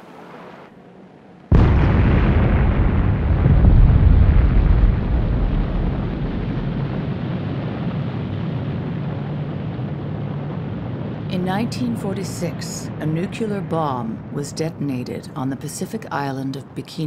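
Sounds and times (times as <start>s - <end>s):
explosion deep rumble: 1.5s - 15.7s.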